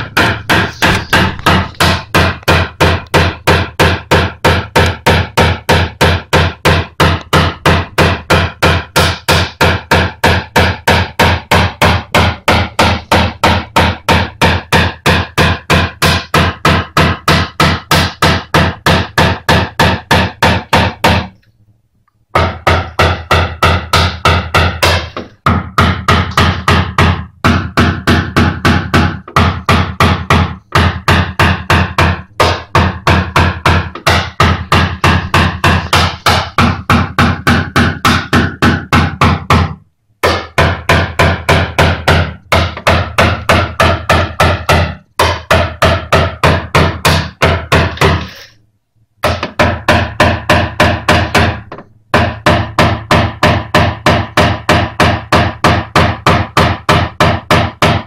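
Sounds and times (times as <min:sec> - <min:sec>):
mallet tapping sheet metal: 0:00.0 - 0:21.5, 0:22.3 - 0:48.6, 0:49.2 - 0:58.0.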